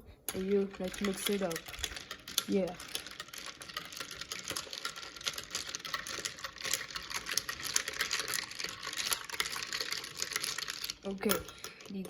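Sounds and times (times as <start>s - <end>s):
spoon clinking against ice: 0.4s - 12.0s.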